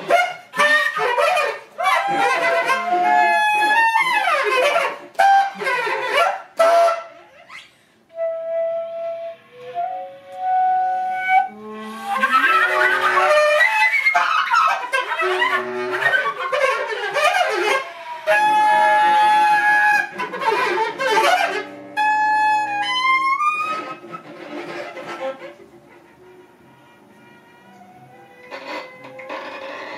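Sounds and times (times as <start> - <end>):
chamber music for woodwinds and strings: 0.0 - 6.2, 8.1 - 29.5.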